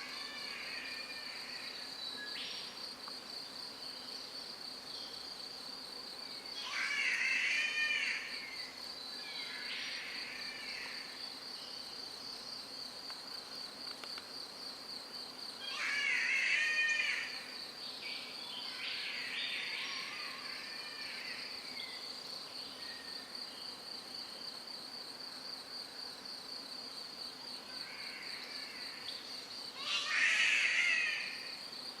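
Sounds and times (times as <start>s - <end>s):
pulsing insect drone: 0.0s - 32.0s.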